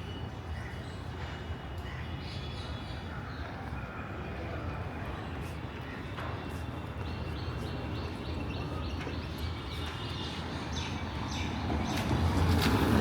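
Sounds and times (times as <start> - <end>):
low hum of street traffic: 0.0 - 13.0.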